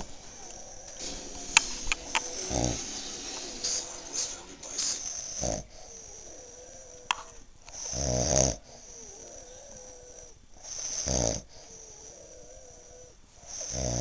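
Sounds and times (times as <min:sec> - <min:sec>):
man snoring: 0:00.0 - 0:07.1, 0:07.8 - 0:14.0.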